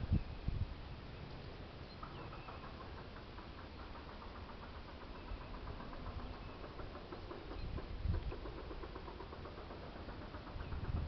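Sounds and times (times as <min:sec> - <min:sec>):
rapid chattering animal call: 0:01.9 - 0:11.0.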